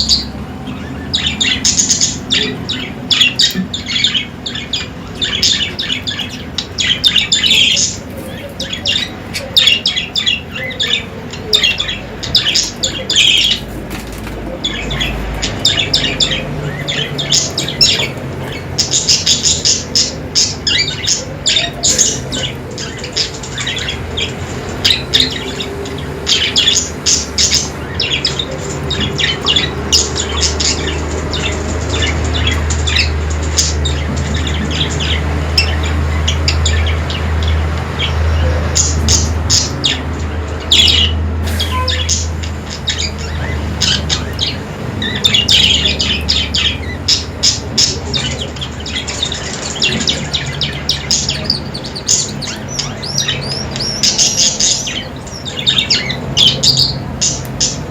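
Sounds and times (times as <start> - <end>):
budgerigars chirping: 0.0 - 57.9.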